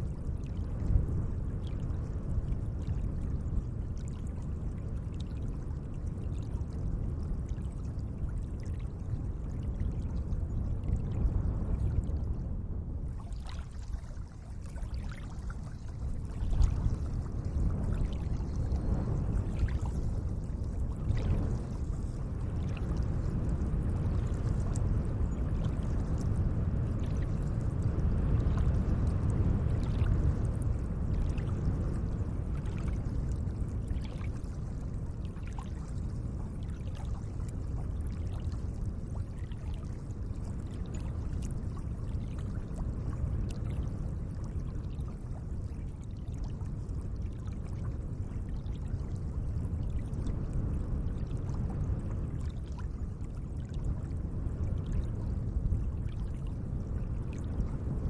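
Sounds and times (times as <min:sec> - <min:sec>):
small water splashes and drips: 0:00.2 - 0:12.3, 0:13.1 - 0:57.9.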